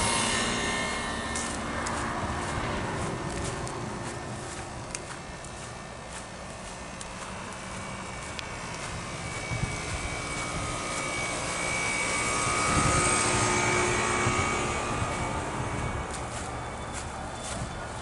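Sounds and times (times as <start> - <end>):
airplane passing overhead: 0.0 - 18.0.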